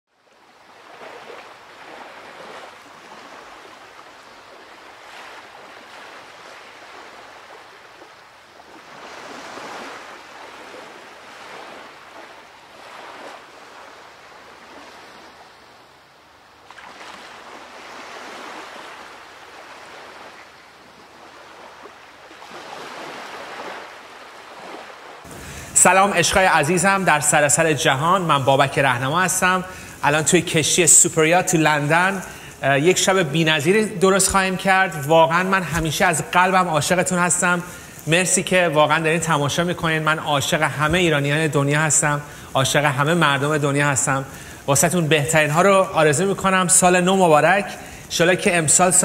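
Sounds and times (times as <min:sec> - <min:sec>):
ocean waves washing: 0:00.1 - 0:49.0.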